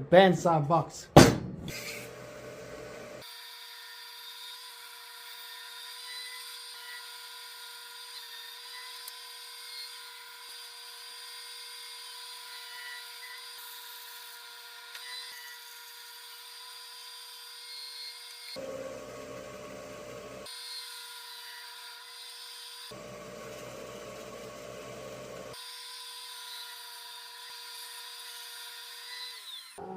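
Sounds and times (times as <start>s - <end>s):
bandsaw cutting wood: 1.7s - 29.9s.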